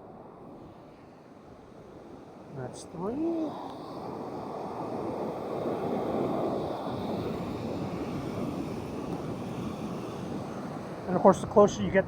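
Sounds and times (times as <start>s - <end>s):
ocean surf washing: 0.0s - 12.0s.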